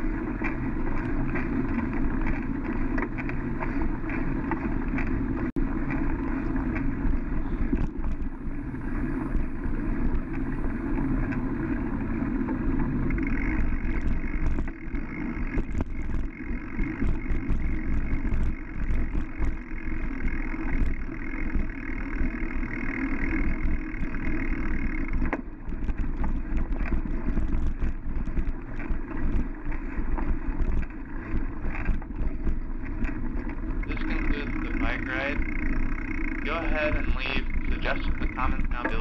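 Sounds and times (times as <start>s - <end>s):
bicycle tyres rolling on dirt: 0.0s - 39.0s
bicycle rattling clicks: 0.1s - 11.7s, 12.8s - 39.0s.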